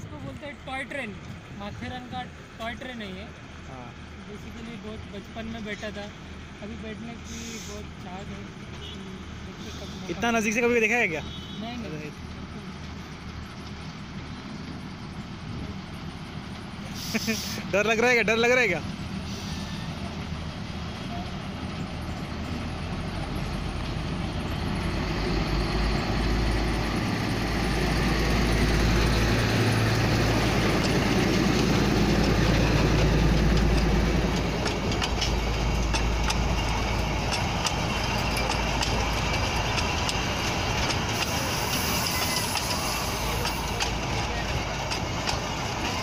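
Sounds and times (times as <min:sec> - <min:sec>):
diesel locomotive engine rumble: 0:00.0 - 0:46.0
train coaches rattling: 0:00.0 - 0:46.0.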